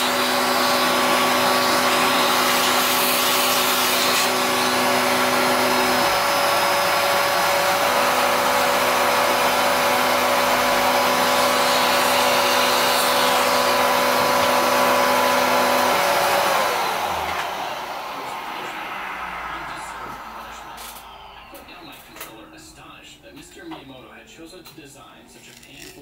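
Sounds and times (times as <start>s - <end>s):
vacuum motor winding down: 0.0s - 23.0s
vacuum cleaner whining: 0.0s - 24.2s.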